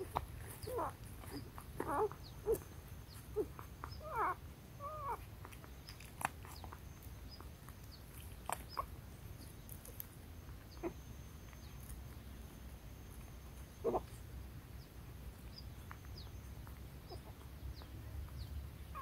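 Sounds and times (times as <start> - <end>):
puppies whimpering and squeaking: 0.0 - 10.0, 10.6 - 11.9, 13.4 - 14.2, 15.5 - 19.0.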